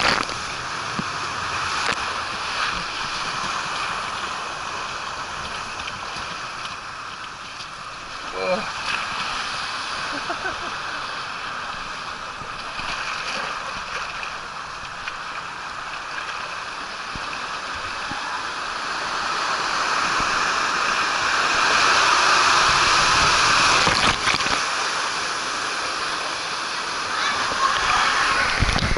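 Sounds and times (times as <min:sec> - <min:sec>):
water rushing down slide: 0:00.0 - 0:28.9.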